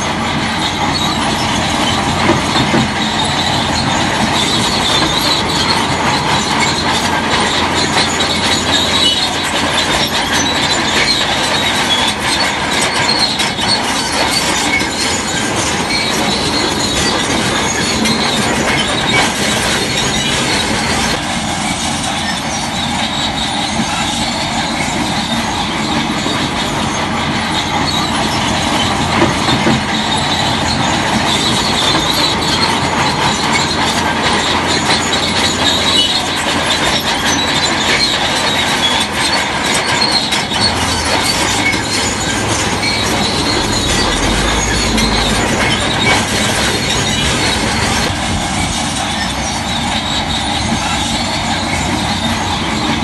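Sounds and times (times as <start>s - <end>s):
diesel engine under load: 0.0s - 53.0s
steel tracks squealing and clanking: 0.0s - 53.0s.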